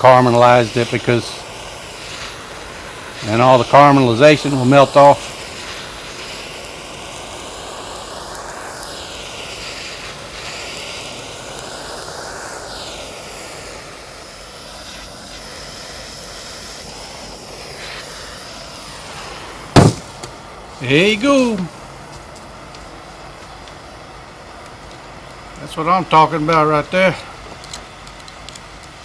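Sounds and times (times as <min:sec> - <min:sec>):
gas torch roaring hiss: 0:00.0 - 0:29.0.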